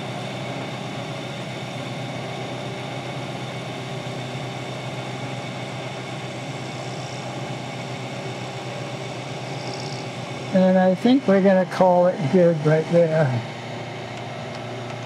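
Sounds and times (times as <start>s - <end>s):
milling machine hum: 0.0s - 15.0s.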